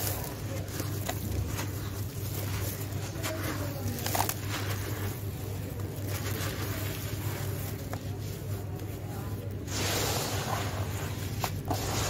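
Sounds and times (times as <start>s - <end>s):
cement chunk crunching by hand: 0.0s - 12.0s
grit pattering into plastic tub: 0.0s - 12.0s
steady low hum: 0.0s - 12.0s.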